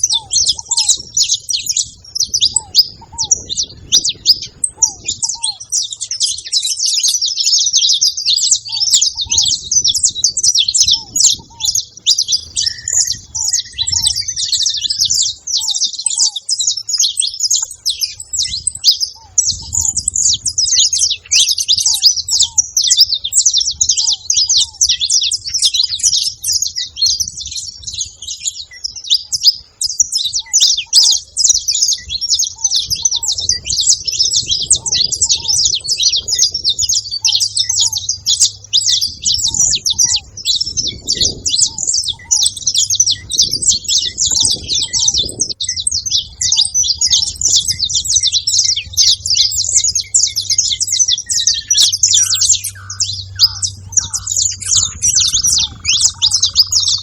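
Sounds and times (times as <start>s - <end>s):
finch singing high chirps: 0.0s - 57.0s.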